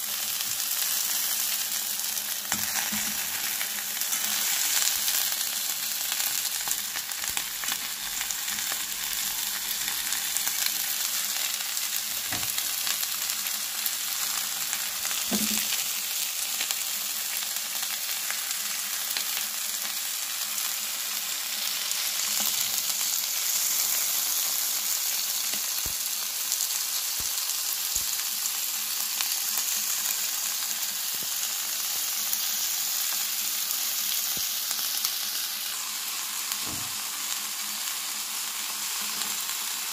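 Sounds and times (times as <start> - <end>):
meat and vegetables sizzling in oil: 0.0 - 39.9.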